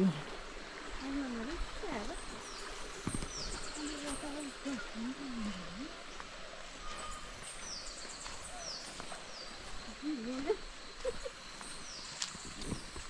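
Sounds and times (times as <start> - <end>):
low wavering bird calls: 1.0 - 13.0.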